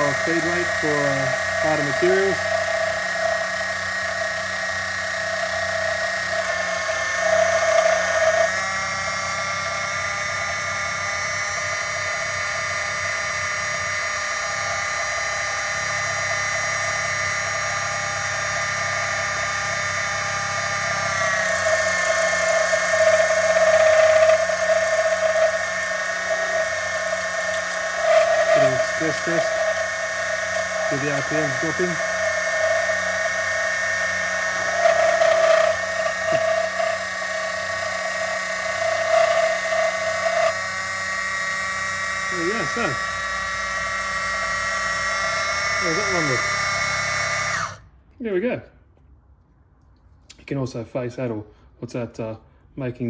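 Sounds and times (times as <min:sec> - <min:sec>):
lathe motor whining: 0:00.0 - 0:47.8.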